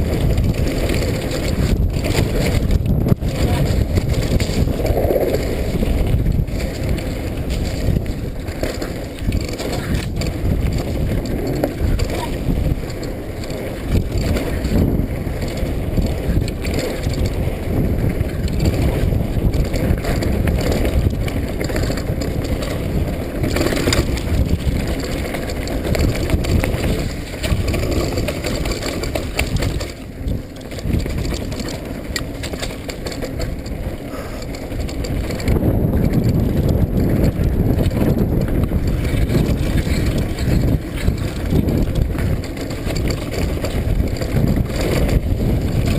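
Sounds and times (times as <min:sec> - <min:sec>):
bike rattling over bumps: 0:00.0 - 0:45.9
bike tyres on wet dirt: 0:00.0 - 0:45.9
wind buffeting microphone: 0:00.0 - 0:45.9.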